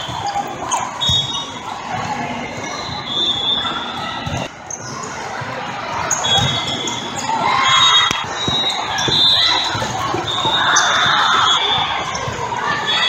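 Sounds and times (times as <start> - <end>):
crowd hubbub: 0.0 - 13.0.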